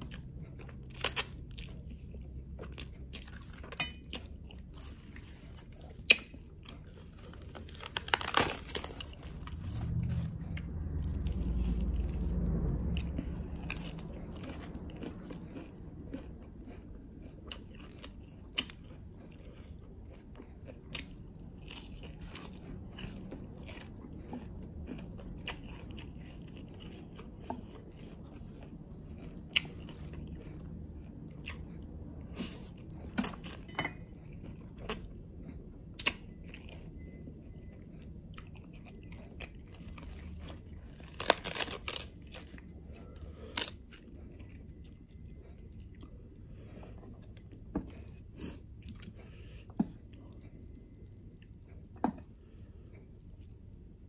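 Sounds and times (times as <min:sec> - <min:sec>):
chewing and biting food: 0:00.0 - 0:54.0
low rumble: 0:06.6 - 0:54.0.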